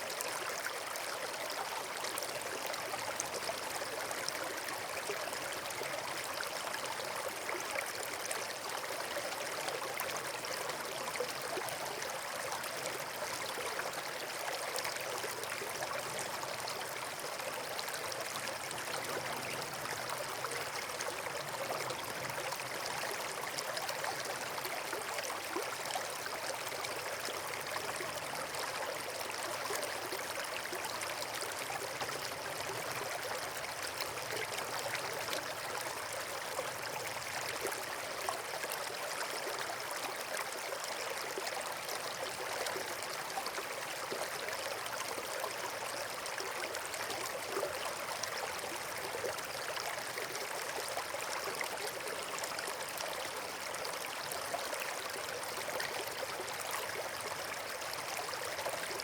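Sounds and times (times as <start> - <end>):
flowing water rushing and trickling: 0.0 - 59.0.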